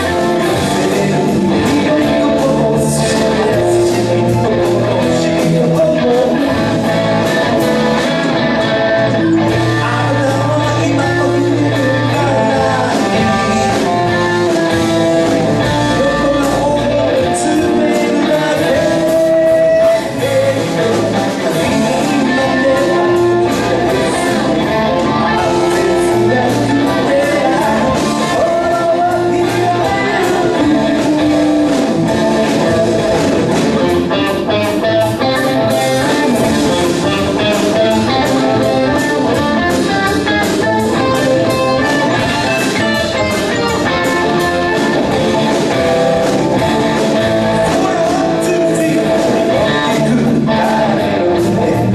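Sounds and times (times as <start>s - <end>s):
electric guitar: 0.0s - 51.9s
rock band playing: 0.0s - 51.9s.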